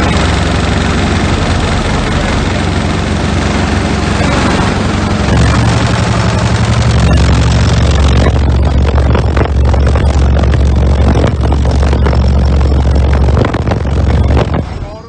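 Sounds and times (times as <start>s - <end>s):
distorted deep bass from subwoofers: 0.0s - 15.0s.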